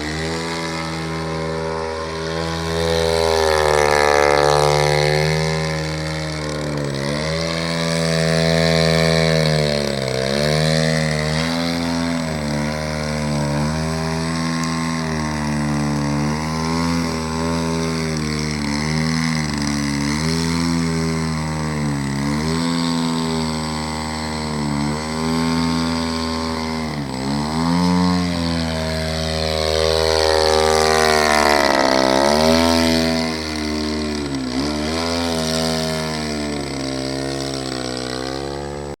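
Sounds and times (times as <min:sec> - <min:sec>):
model airplane engine running: 0:00.0 - 0:39.0.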